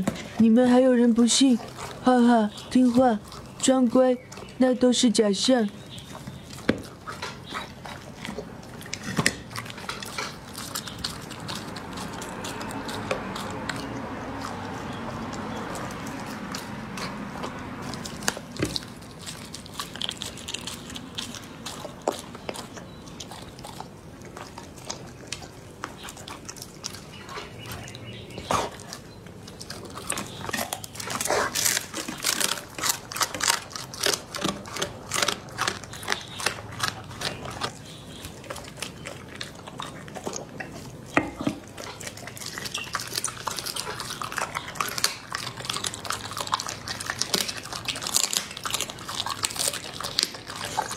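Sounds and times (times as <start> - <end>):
dog chewing and crunching bone: 0.0 - 50.9.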